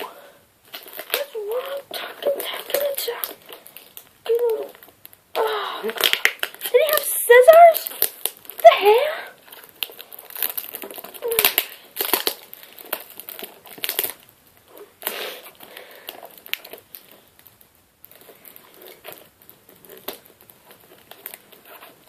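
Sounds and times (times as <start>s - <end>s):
packaging crinkling and ripping: 0.6s - 22.0s.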